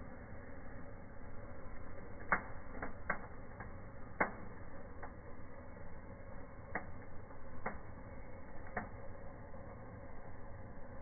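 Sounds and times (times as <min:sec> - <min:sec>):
fire crackling and popping: 0:00.0 - 0:11.0.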